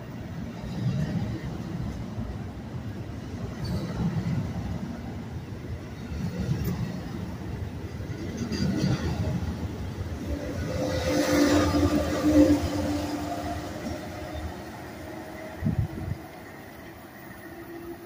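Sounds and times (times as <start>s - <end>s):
electric locomotive hum: 0.0s - 18.0s
train coaches rumbling on rails: 0.0s - 18.0s.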